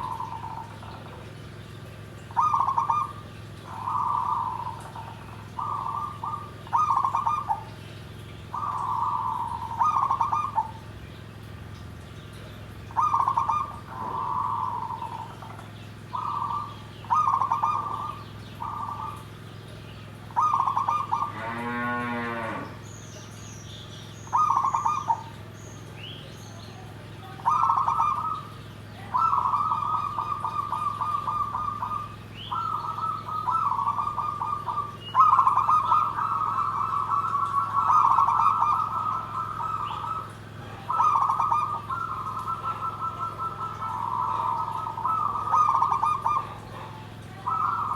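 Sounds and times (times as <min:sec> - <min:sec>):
dove cooing: 0:00.0 - 0:01.4, 0:02.2 - 0:07.8, 0:08.5 - 0:10.9, 0:12.8 - 0:22.7, 0:24.3 - 0:25.4, 0:26.6 - 0:47.9
small birds chirping: 0:00.0 - 0:21.4, 0:22.7 - 0:47.9.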